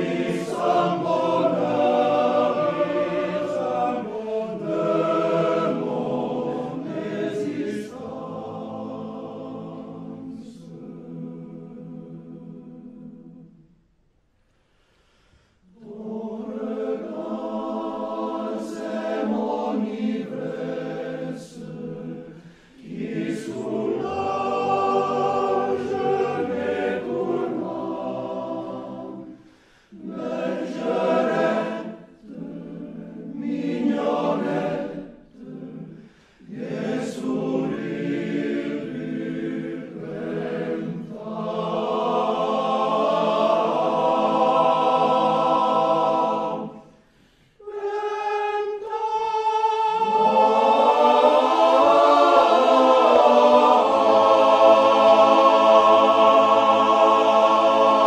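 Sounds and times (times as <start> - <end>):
choir singing a cappella: 0.0 - 13.8, 15.2 - 58.0.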